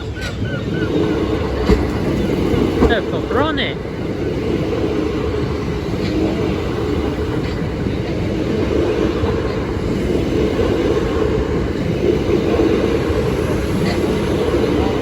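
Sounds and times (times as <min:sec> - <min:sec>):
train passing close by: 0:00.0 - 0:15.0
wheels rumbling on rail: 0:00.0 - 0:15.0.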